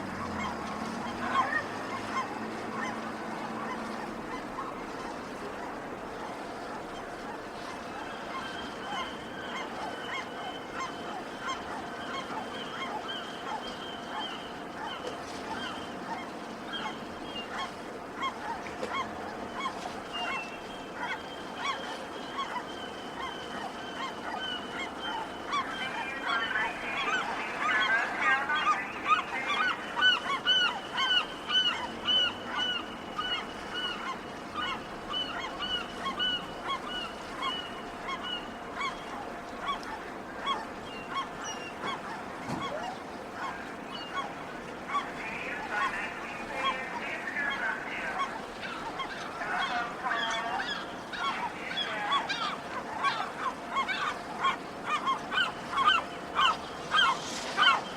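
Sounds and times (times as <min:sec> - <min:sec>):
gulls calling: 0:00.0 - 0:57.9.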